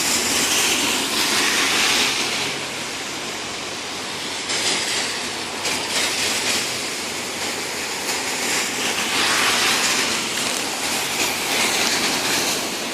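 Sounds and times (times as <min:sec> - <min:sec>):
heavy rain falling: 0:00.0 - 0:12.9.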